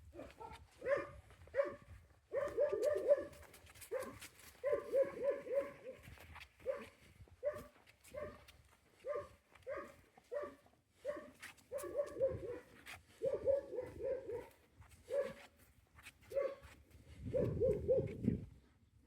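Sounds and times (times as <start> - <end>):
dog barking: 0.1 - 15.5, 16.3 - 16.7, 17.3 - 18.2.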